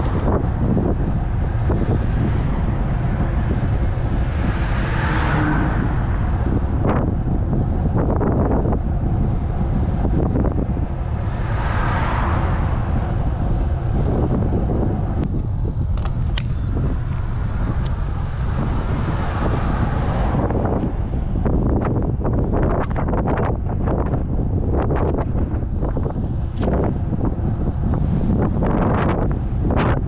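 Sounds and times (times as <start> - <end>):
road noise rumble: 0.0 - 30.0
wind buffeting microphone: 0.0 - 30.0.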